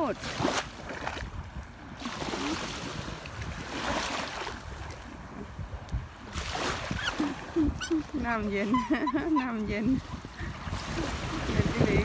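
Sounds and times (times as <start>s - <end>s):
small waves washing on sand: 0.0s - 12.0s
wind rumbling on microphone: 0.0s - 12.0s.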